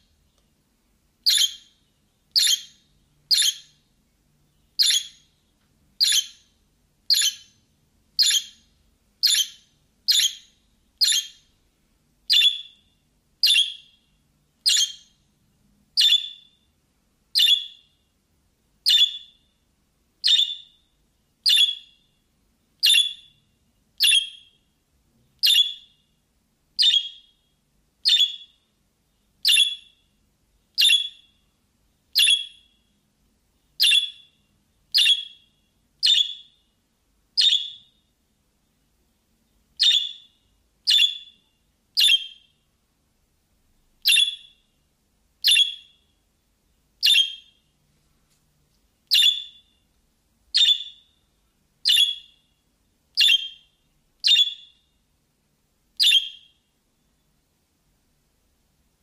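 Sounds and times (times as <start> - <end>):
recorded bird chirp from phone: 1.2 - 11.6, 12.3 - 18.1, 18.8 - 19.6, 20.2 - 26.2, 26.8 - 33.0, 33.6 - 36.8, 37.4 - 38.8, 39.4 - 42.7, 44.0 - 47.8, 49.0 - 55.1, 56.0 - 57.4.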